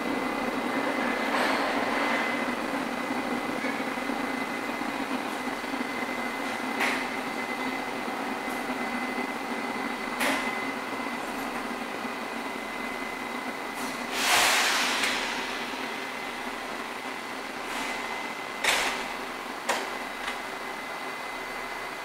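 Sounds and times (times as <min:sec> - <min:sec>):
subway car equipment humming: 0:00.0 - 0:22.0.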